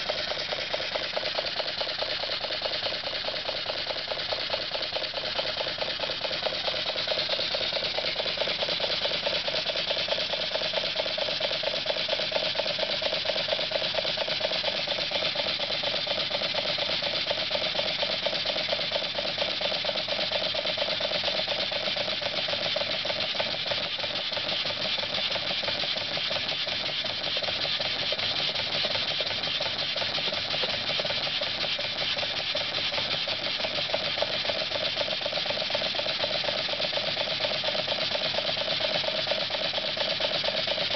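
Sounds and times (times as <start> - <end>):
model steam engine chuffing: 0.0 - 40.9
valve gear clatter: 0.0 - 40.9.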